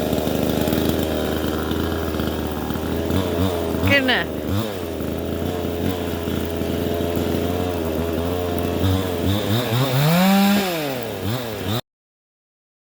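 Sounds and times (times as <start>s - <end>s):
chainsaw revving: 0.0s - 11.8s.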